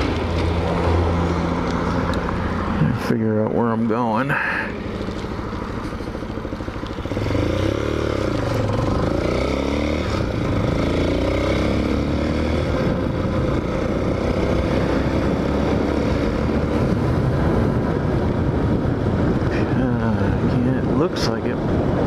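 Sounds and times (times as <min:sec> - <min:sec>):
motorcycle engine accelerating: 0:00.0 - 0:20.8
wind rushing over microphone: 0:00.0 - 0:22.0.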